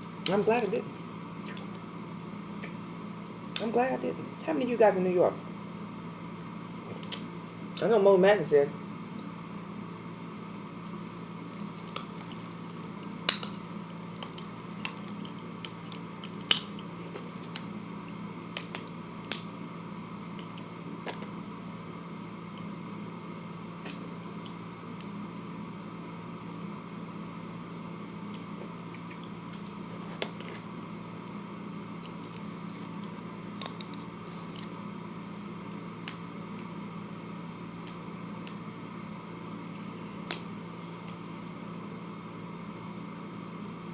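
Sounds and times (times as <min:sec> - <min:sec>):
room hum: 0:00.0 - 0:43.9.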